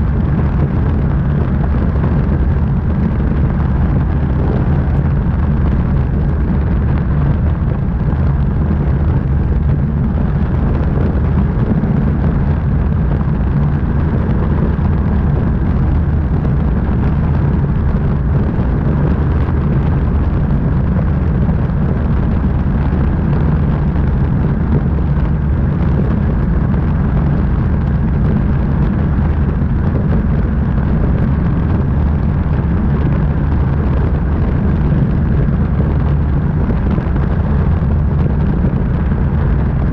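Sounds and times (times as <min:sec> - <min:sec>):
aircraft engine droning: 0:00.0 - 0:39.9
wind rushing over microphone: 0:00.0 - 0:39.9.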